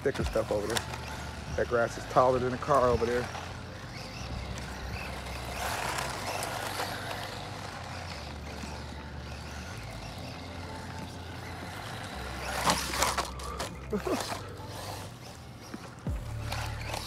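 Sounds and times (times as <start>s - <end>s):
electric motor whine: 0.0s - 17.0s
tyre noise on asphalt: 0.0s - 17.0s.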